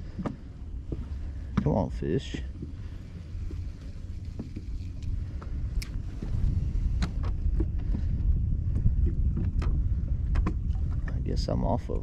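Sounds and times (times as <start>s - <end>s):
boat engine rumble: 0.0s - 12.0s
wind on microphone: 0.0s - 12.0s.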